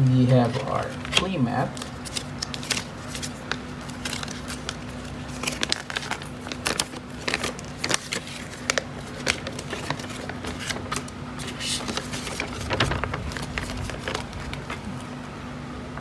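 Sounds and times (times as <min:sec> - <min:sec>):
faint steady hum: 0:00.0 - 0:16.0
packaging crinkling and rustling: 0:00.2 - 0:15.4.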